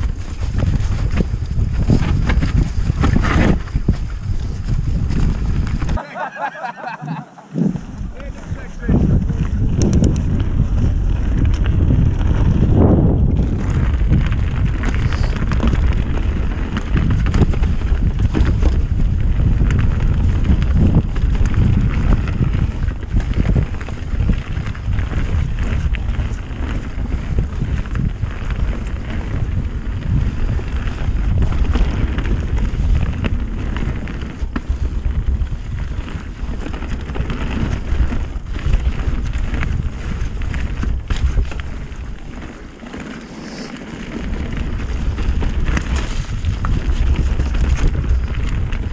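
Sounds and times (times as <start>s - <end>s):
bike rattles and knocks: 0.0s - 6.0s, 9.2s - 48.9s
tyres rumbling over dirt: 0.0s - 48.9s
wind buffeting microphone: 0.0s - 48.9s.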